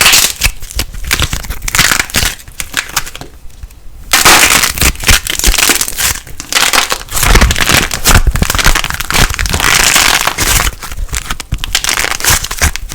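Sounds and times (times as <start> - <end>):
plasticine crackling when squeezed: 0.0 - 3.3, 4.1 - 12.9.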